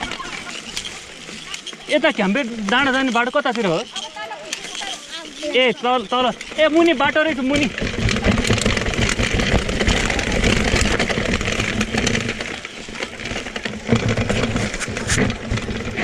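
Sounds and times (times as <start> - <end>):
bike knocks and rattles: 0.0 - 16.0
mountain bike tyre and drivetrain noise: 0.0 - 16.0.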